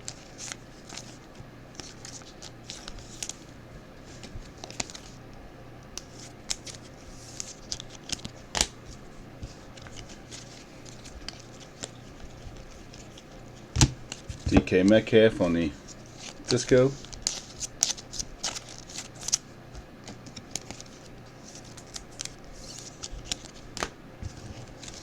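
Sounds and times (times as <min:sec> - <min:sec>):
trading cards clicking and rustling: 0:00.0 - 0:03.4, 0:04.1 - 0:05.2, 0:06.0 - 0:25.0.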